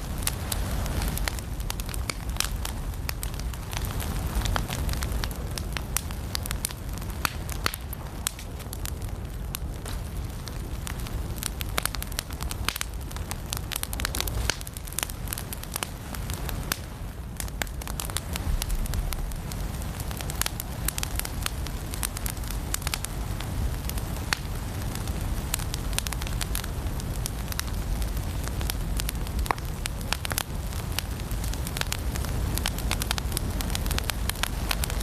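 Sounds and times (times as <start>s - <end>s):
firewood crackling and popping: 0.0s - 35.0s
low rush of flames: 0.0s - 35.0s.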